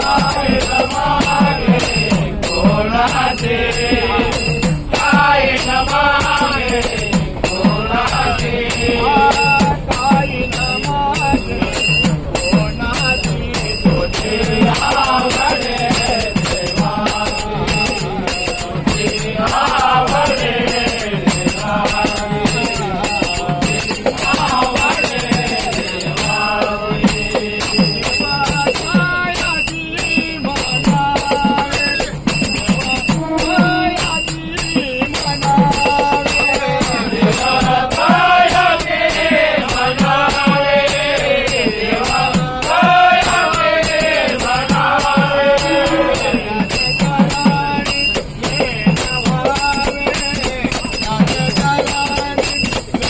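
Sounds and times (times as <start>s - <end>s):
drum strokes: 0.0s - 53.0s
jingling hand cymbals: 0.0s - 53.0s.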